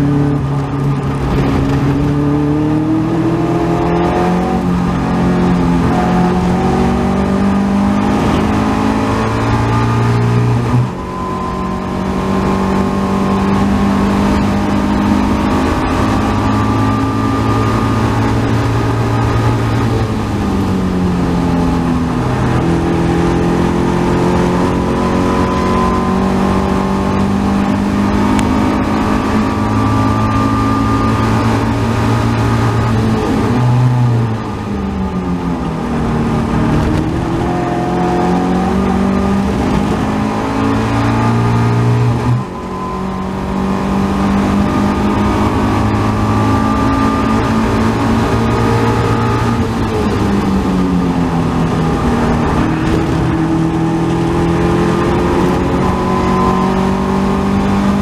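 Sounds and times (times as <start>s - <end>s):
race car engine at full throttle: 0.0s - 58.0s.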